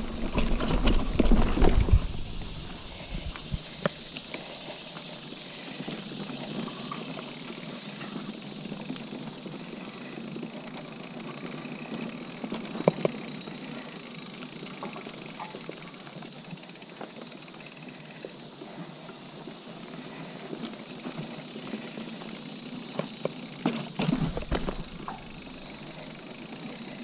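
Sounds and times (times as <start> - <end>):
bike rattling over bumps: 0.0 - 27.0
bike tyres rolling on dirt: 0.0 - 27.0.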